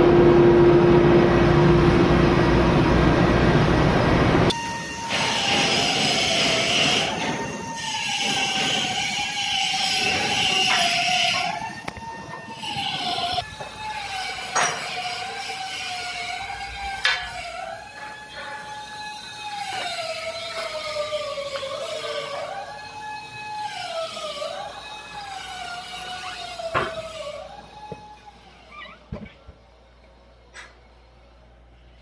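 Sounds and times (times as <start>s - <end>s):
machinery whine: 0.0s - 32.0s.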